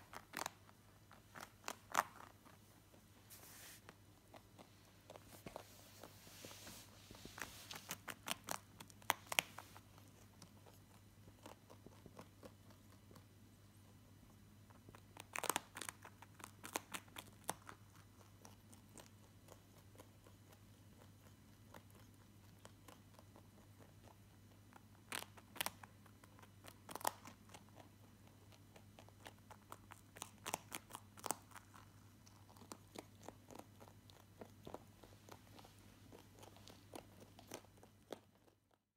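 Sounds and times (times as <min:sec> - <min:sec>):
rabbit crunching food: 0:00.0 - 0:38.9.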